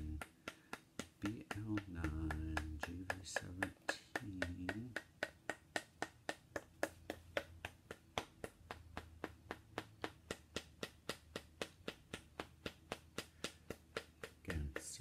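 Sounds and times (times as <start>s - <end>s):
rod tapping on bone: 0.0s - 15.0s.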